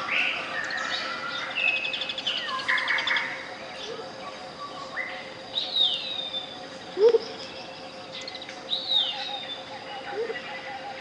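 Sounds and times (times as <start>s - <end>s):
jungle birds calling: 0.0s - 11.0s
steady pure tone: 0.0s - 11.0s.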